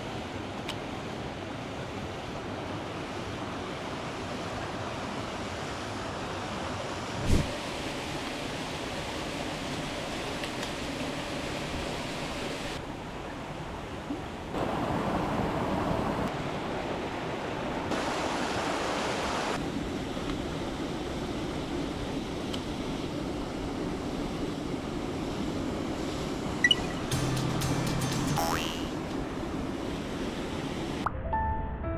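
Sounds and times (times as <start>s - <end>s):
mountain stream rushing: 0.0s - 31.0s.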